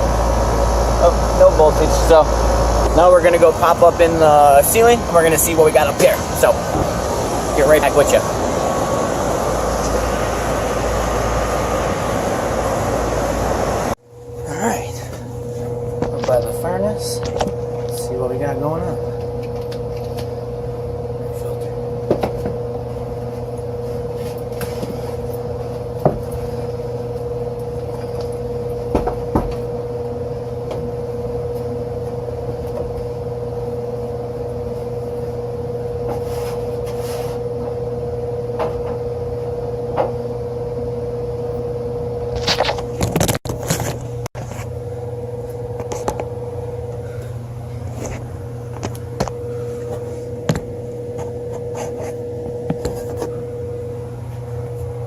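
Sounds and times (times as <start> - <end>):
machine hum with whine: 0.0 - 55.0.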